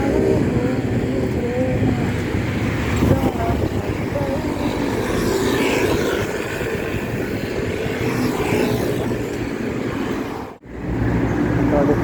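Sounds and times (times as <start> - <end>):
hum of motor traffic: 0.0 - 12.0
wind rumbling on microphone: 0.0 - 12.0.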